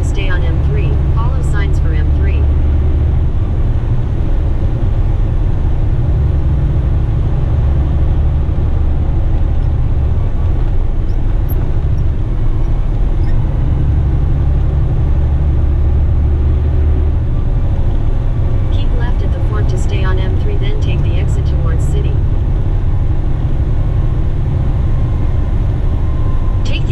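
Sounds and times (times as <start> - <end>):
road noise: 0.0 - 26.9
truck diesel engine rumble: 0.0 - 26.9.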